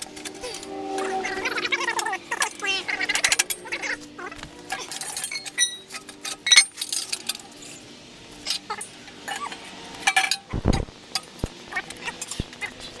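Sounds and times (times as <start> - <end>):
metal parts clinking: 0.0 - 10.5, 11.1 - 13.0.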